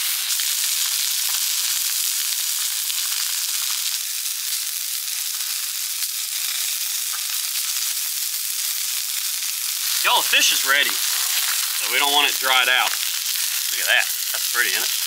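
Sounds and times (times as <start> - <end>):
vegetables sizzling in a skillet: 0.0 - 15.0.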